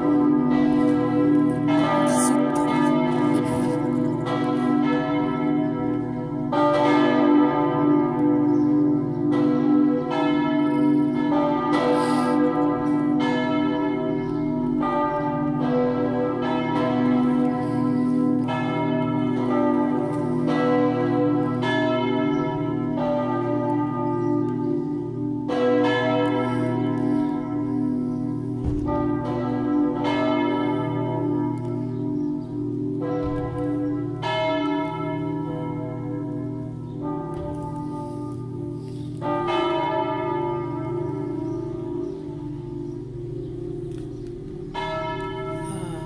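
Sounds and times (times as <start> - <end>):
church bells ringing: 0.0 - 46.0.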